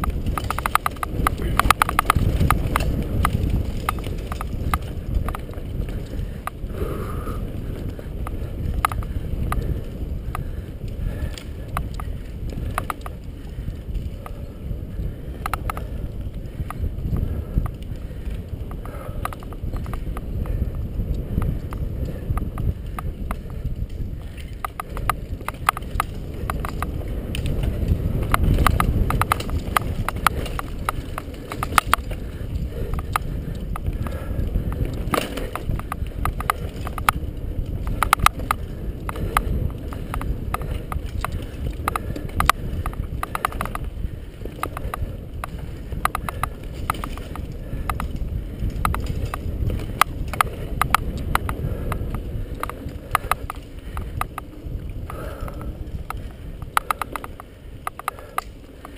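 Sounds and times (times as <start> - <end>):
bike clattering over bumps: 0.0 - 58.9
wind and tyres rumbling: 0.0 - 58.9.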